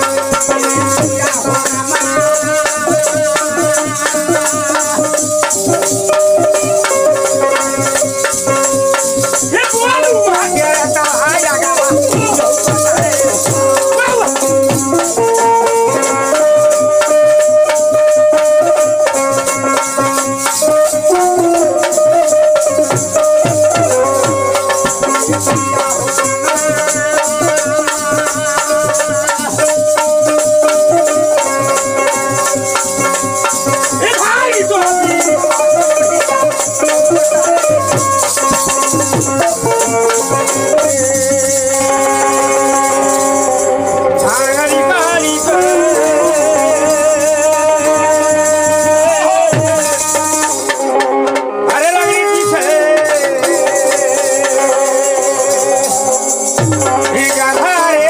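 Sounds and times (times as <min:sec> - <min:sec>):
hand drum strokes: 0:00.0 - 0:58.0
keyed banjo melody: 0:00.0 - 0:58.0.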